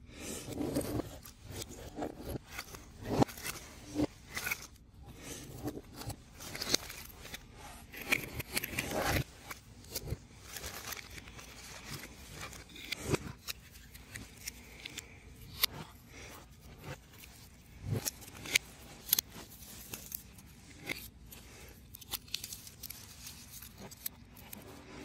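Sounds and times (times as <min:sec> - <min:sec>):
puzzle pieces scraping: 0:00.0 - 0:25.0.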